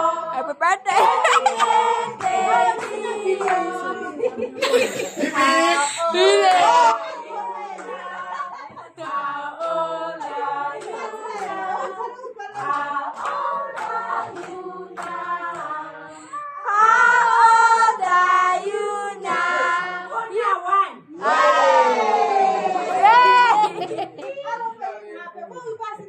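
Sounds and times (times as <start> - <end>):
voices singing together: 0.0 - 25.0.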